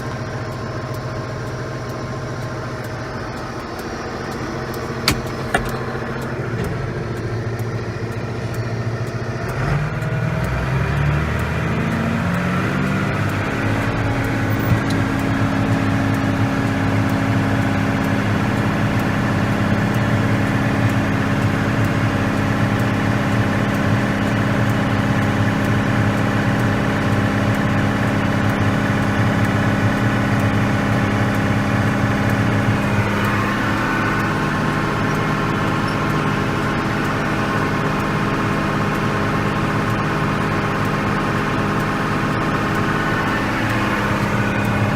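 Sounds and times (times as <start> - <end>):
farm machinery engine running: 0.0 - 44.9.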